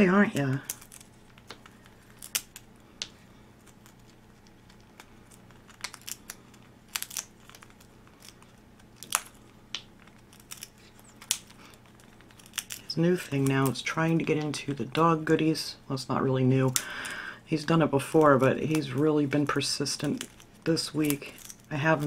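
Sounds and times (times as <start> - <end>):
parrot chewing wood: 0.0 - 15.0, 18.0 - 22.0
faint low hum: 0.0 - 22.0.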